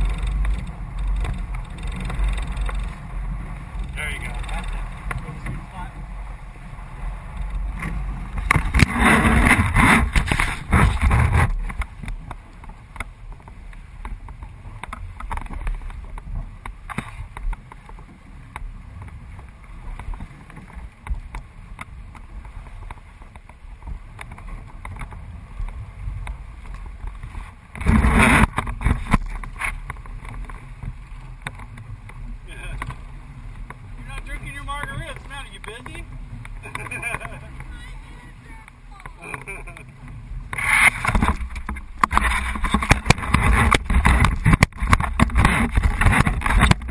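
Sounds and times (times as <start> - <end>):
water splashing against boat hull: 0.0 - 46.9
wind rumbling on microphone: 0.0 - 46.9.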